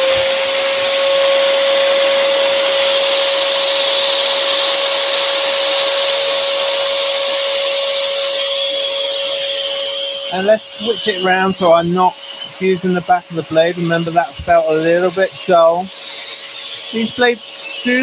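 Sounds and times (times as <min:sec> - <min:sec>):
dust extractor whining: 0:00.0 - 0:18.0
scroll saw running: 0:00.0 - 0:18.0.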